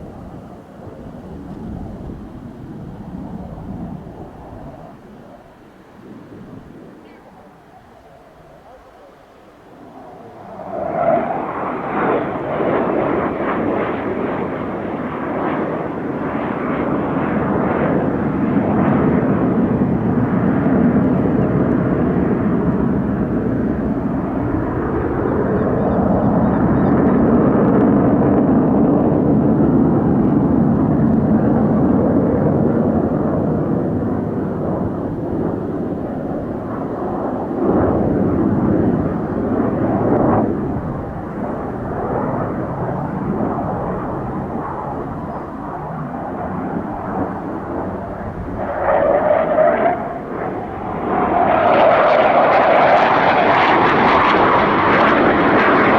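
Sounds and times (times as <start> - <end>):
jet fighter engine rumble: 0.0 - 55.9.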